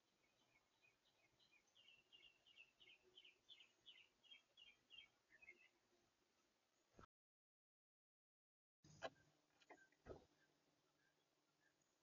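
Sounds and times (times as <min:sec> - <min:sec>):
songbird singing: 0:00.0 - 0:07.1, 0:08.9 - 0:12.0.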